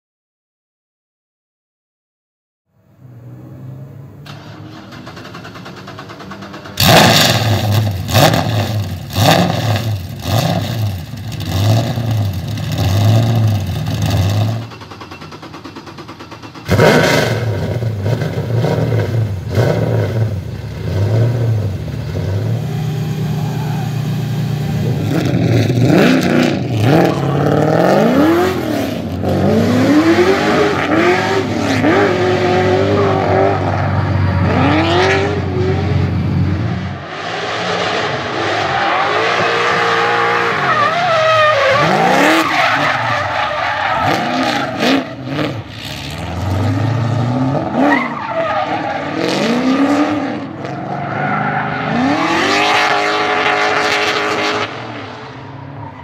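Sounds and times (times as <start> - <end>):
car engine revving: 2.9 - 15.0, 15.6 - 56.0
engine pitch rising and falling: 3.0 - 56.0.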